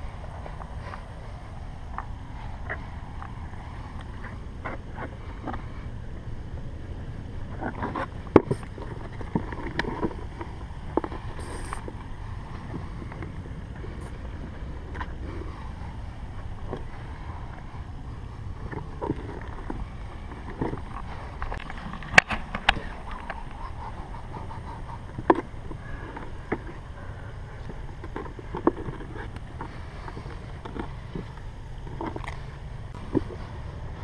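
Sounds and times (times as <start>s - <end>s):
wind rumble on microphone: 0.0s - 34.0s.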